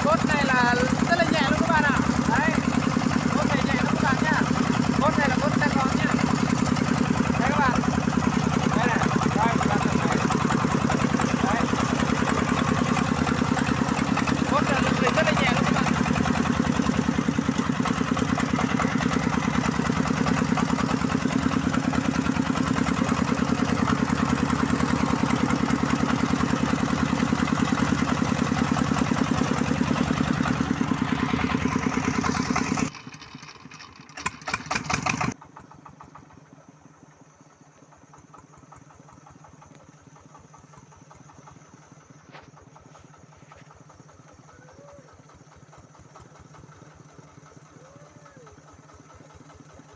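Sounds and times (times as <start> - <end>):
diesel engine chugging: 0.0 - 49.9.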